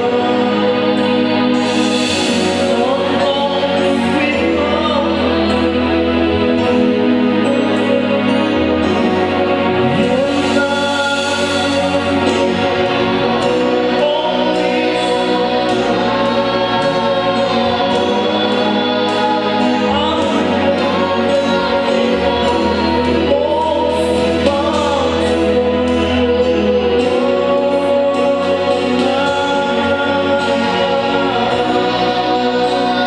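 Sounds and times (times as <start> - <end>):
bass line: 0.0 - 33.0
choir singing gospel song: 0.0 - 33.0
instrumental accompaniment: 0.0 - 33.0.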